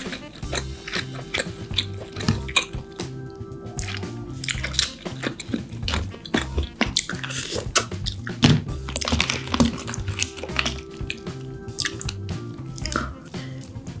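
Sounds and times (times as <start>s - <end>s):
crab shell cracking: 0.0s - 13.8s
background music with low notes: 0.0s - 14.0s
wet chewing and slurping: 0.0s - 14.0s.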